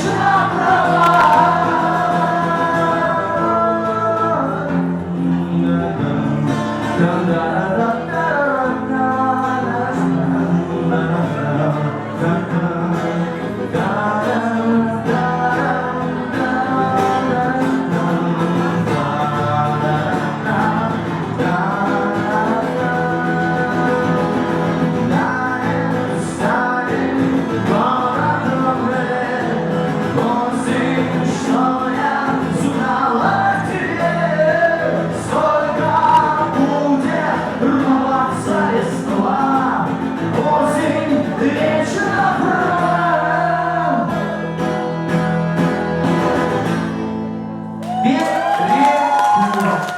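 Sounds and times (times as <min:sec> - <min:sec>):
person singing: 0:00.0 - 0:44.3
guitar: 0:00.0 - 0:49.9.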